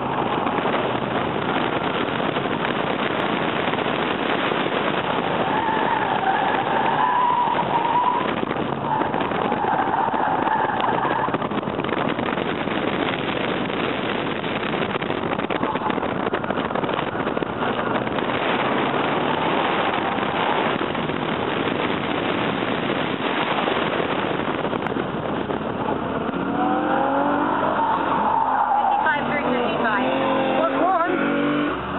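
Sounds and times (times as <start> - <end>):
car engine and road noise: 0.0 - 31.9
tires squealing: 0.0 - 31.9.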